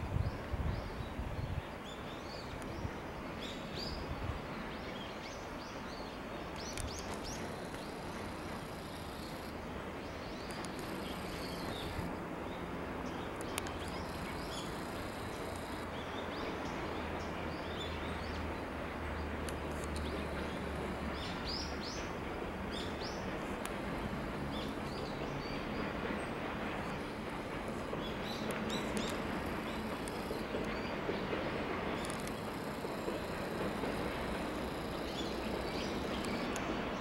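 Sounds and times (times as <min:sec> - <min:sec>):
steady hiss: 0:00.0 - 0:37.0.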